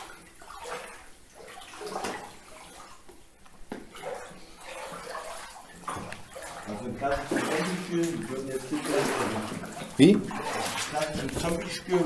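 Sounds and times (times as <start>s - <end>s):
footsteps sloshing through water: 0.0s - 12.0s.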